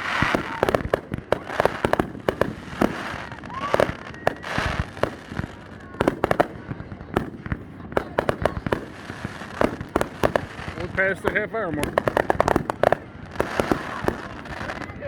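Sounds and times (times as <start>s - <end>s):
fireworks bursting with sharp bangs: 0.0s - 15.0s
fireworks hissing: 0.0s - 15.0s.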